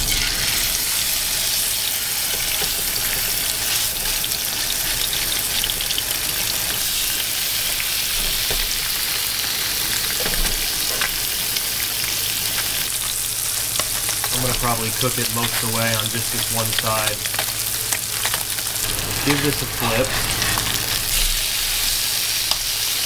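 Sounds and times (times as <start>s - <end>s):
fish sizzling in a frying pan: 0.0s - 23.0s.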